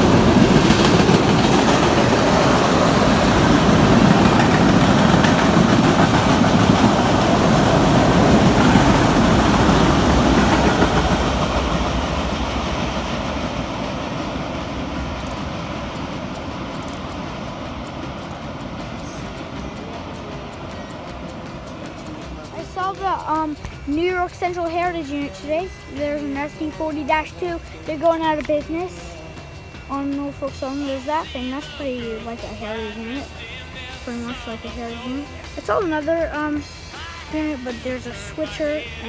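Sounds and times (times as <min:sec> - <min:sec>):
train wheels on rail: 0:00.0 - 0:39.0.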